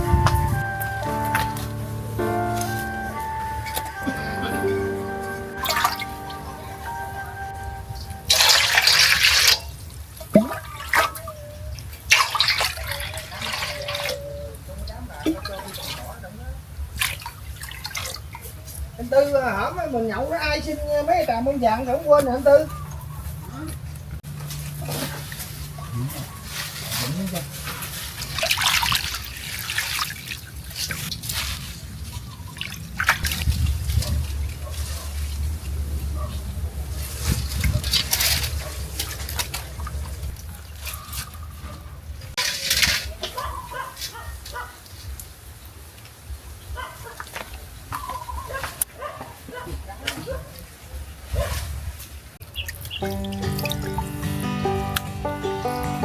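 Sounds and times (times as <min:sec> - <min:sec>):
water splashing: 0:00.0 - 0:20.6, 0:21.2 - 0:36.0, 0:36.6 - 0:41.6, 0:42.3 - 0:45.3, 0:51.4 - 0:56.0.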